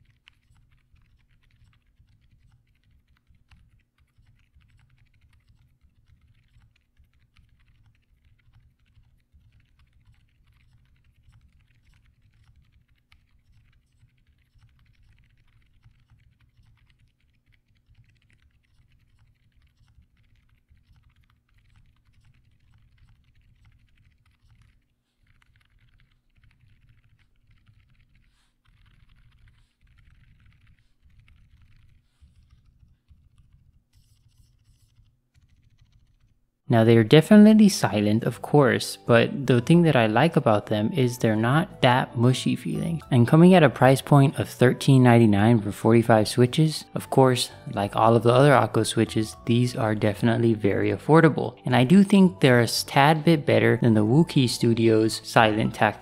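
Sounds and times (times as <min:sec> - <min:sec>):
muffled mechanical keyboard typing: 0:00.0 - 0:36.4, 0:37.2 - 0:56.0.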